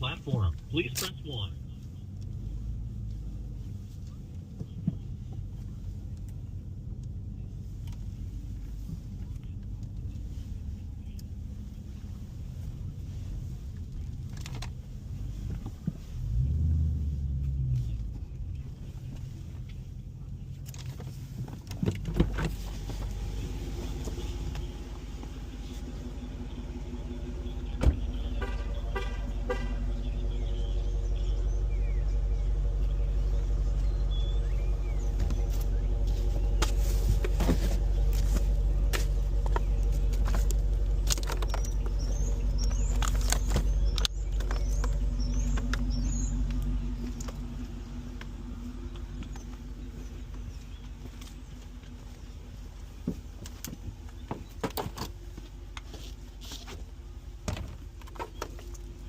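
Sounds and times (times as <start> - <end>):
car engine and road hum: 0.0 - 59.0.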